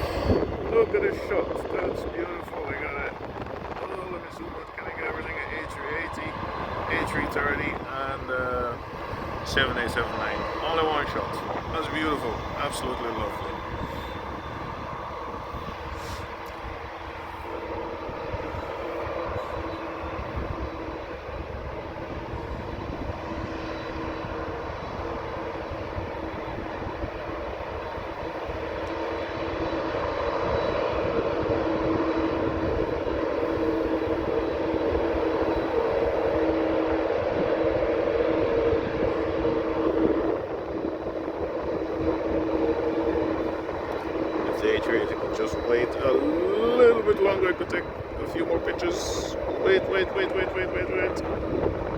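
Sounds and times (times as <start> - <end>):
jet airliner engines humming: 0.0 - 51.9.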